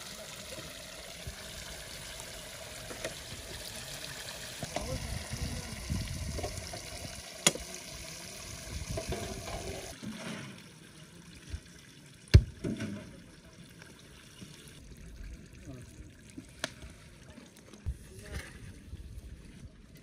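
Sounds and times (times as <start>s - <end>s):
water trickling: 0.0s - 17.9s.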